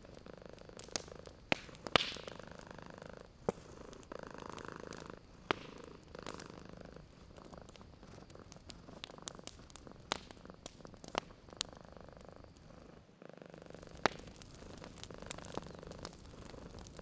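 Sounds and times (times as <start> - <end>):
cat purring: 0.0 - 17.0
wood fire crackling and popping: 0.0 - 17.0.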